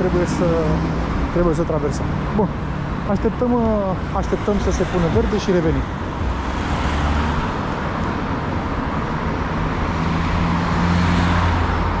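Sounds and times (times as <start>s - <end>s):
cars driving past: 0.0s - 12.0s
engine hum: 0.0s - 12.0s.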